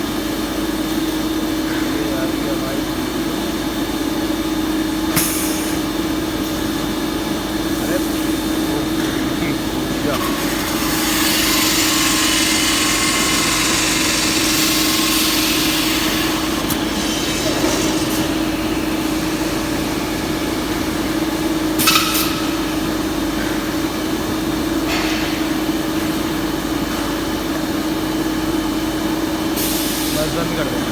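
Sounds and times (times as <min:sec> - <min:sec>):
machine humming and hissing: 0:00.0 - 0:30.9.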